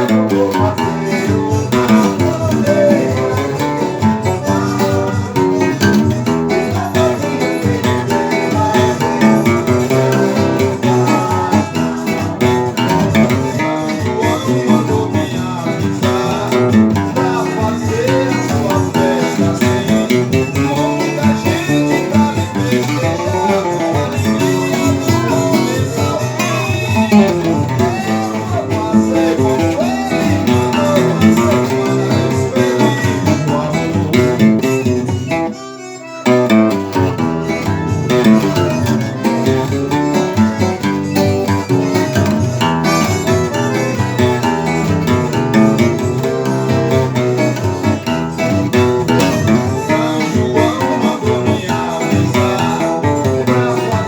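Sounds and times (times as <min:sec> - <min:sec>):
acoustic guitar tune: 0:00.0 - 0:54.0.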